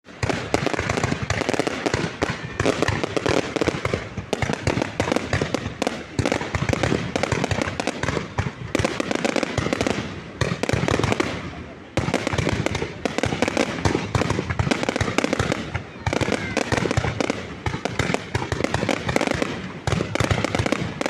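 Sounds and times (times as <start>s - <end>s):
fireworks cracking and popping: 0.0s - 21.0s.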